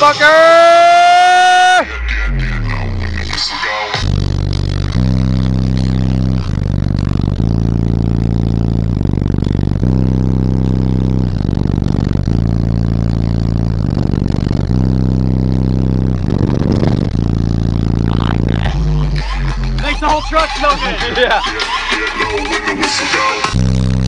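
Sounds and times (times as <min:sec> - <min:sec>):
loud bass-heavy music: 0:00.0 - 0:24.0.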